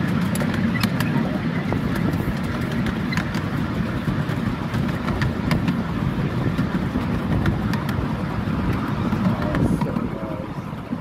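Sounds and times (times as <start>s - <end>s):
rumble of train wheels: 0.0s - 11.0s.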